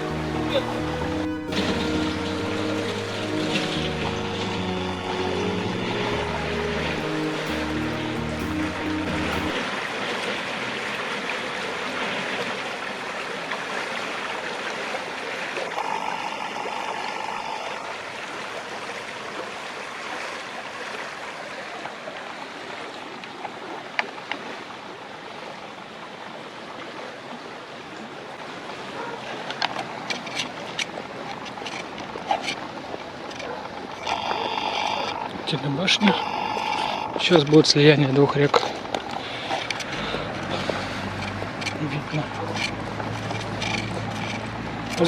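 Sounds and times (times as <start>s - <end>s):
flowing stream water: 0.0s - 45.0s.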